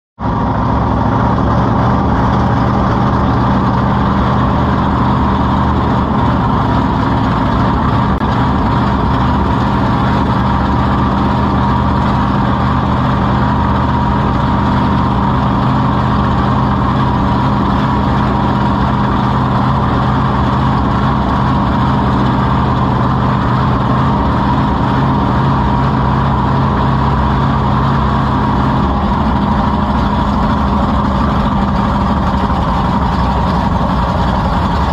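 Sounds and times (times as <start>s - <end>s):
truck engine idling: 0.2s - 34.9s.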